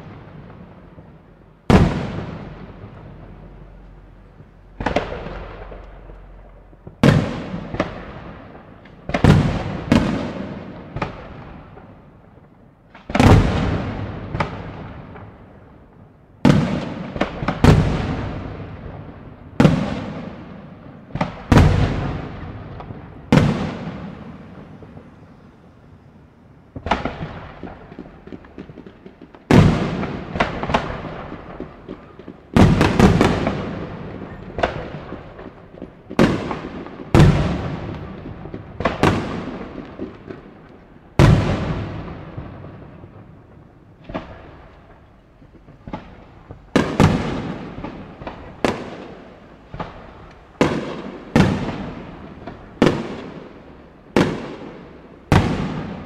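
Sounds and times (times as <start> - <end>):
firework bangs: 0.0 - 56.0.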